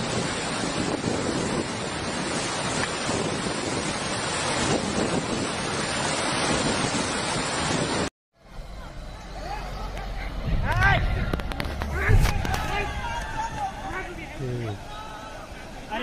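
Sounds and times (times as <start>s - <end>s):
fast-flowing river rushing: 0.0s - 8.1s, 9.2s - 16.0s
wind buffeting microphone: 0.0s - 8.1s, 10.0s - 15.8s.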